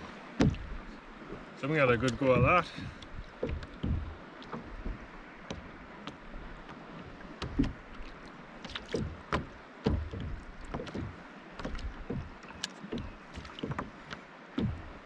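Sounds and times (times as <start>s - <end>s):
faint wash of water: 0.0s - 15.0s
waves slapping against kayak hull: 0.0s - 15.0s.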